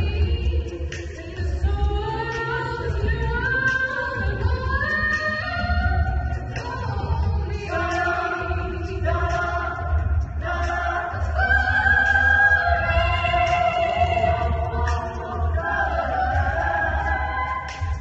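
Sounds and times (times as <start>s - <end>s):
a cappella group singing in harmony: 0.0s - 18.0s.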